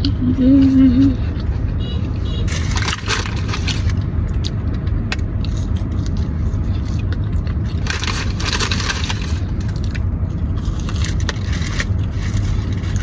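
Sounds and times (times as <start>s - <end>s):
food wrapper crinkling and crunching: 2.5s - 13.0s.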